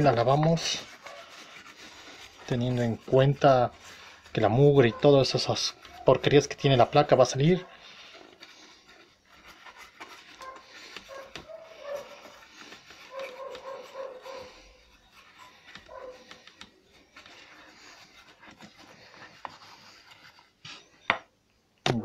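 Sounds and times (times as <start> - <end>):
brush scrubbing circuit board: 0.0 - 20.6.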